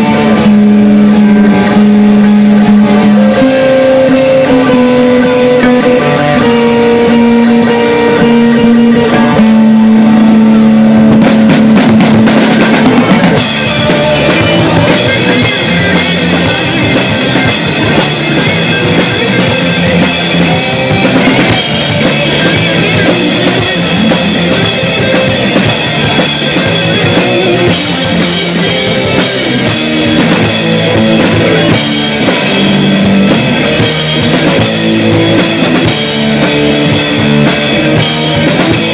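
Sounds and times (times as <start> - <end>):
bass guitar: 0.0 - 38.9
drum kit: 0.0 - 38.9
electric guitars: 0.0 - 38.9.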